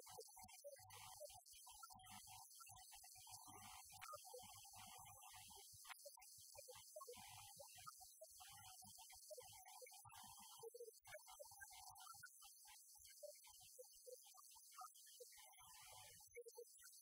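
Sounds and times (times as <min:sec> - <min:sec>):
choppy electronic hum and hiss: 0:00.0 - 0:17.0.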